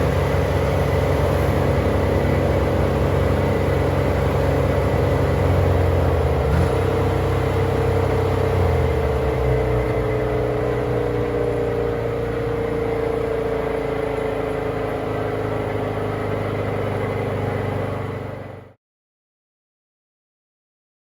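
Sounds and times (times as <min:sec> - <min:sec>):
wood chipper engine running: 0:00.0 - 0:18.8.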